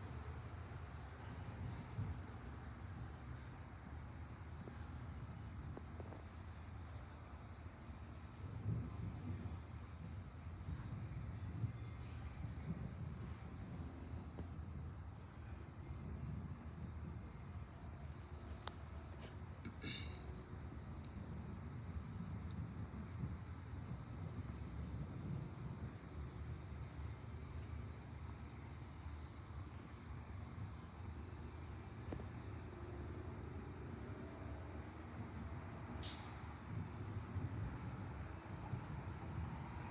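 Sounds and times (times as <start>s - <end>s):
night insects chorus: 0.0s - 39.9s.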